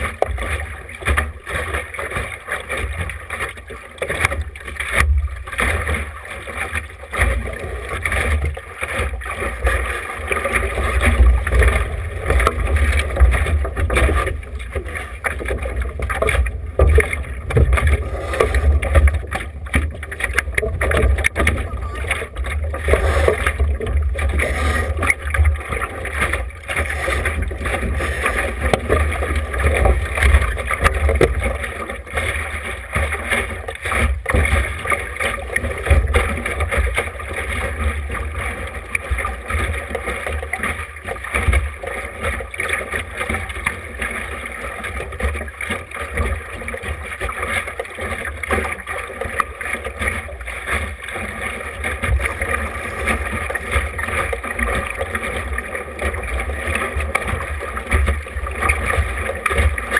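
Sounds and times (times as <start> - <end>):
water rushing along a hull: 0.0 - 59.9.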